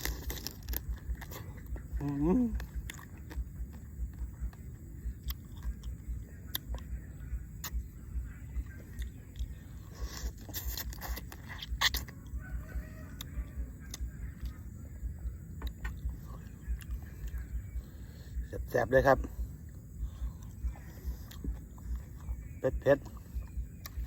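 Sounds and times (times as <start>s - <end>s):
close-up chewing crunchy food: 0.0s - 24.0s.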